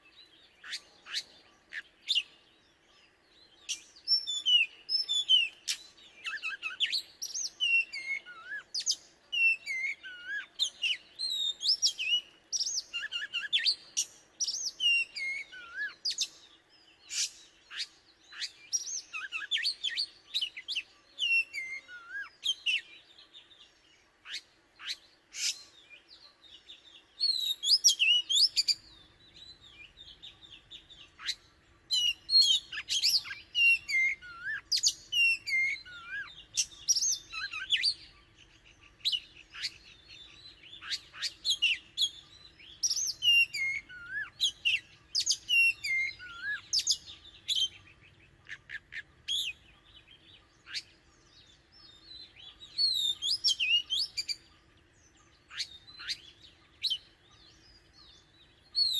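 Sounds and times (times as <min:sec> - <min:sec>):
bird singing whistled phrases: 0:00.0 - 0:02.4, 0:03.4 - 0:23.3, 0:24.2 - 0:58.9.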